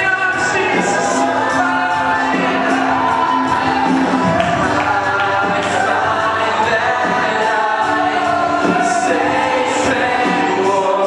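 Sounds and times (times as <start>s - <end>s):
man singing into microphone: 0.0s - 3.4s, 4.5s - 11.0s.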